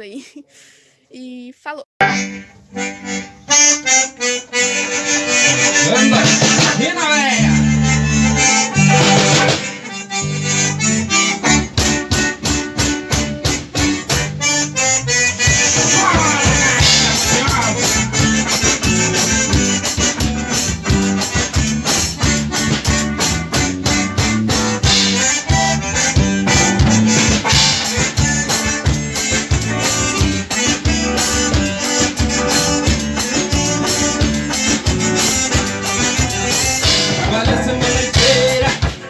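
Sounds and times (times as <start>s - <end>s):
accordion lead: 2.0s - 39.0s
bass: 2.0s - 39.0s
guitar: 2.0s - 39.0s
drum kit beat: 2.1s - 39.0s.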